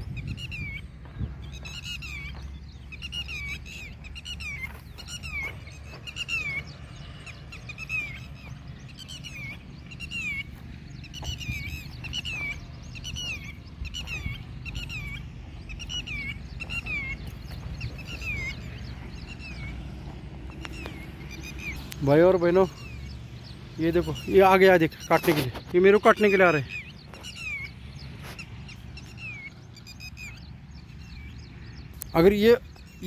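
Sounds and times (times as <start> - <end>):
lapwing alarm calls: 0.0 - 33.0.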